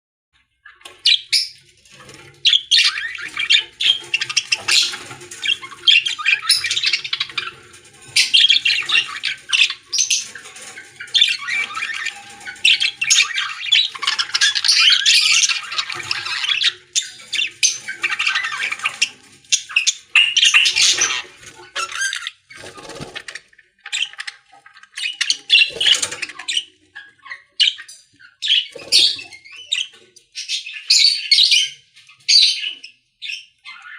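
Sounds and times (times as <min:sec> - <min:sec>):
parrots chattering and squawking: 0:00.6 - 0:33.9.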